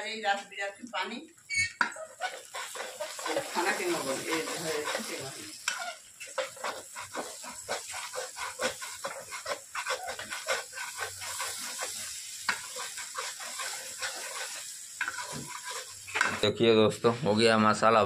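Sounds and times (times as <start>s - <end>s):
oil sizzling: 0.0s - 17.2s
metal ladle scraping pan: 1.5s - 16.5s.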